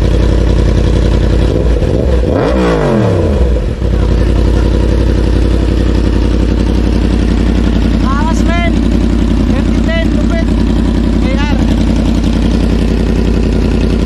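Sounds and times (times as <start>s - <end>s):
engine revving: 0.0s - 14.0s
motorcycle engine idling: 0.0s - 14.0s.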